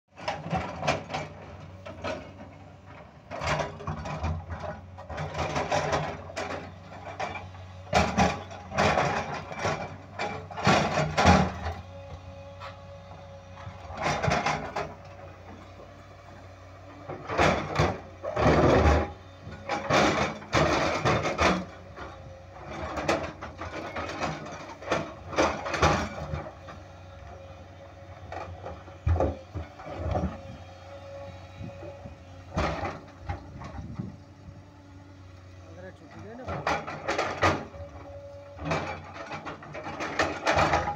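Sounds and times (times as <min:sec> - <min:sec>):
excavator engine humming: 0:00.1 - 0:40.9.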